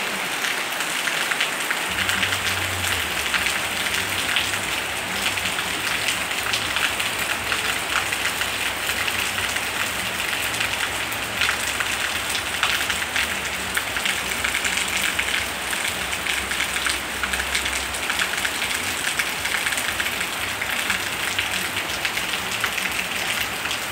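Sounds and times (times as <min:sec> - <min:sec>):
heavy rain on metal roofs: 0:00.0 - 0:23.9.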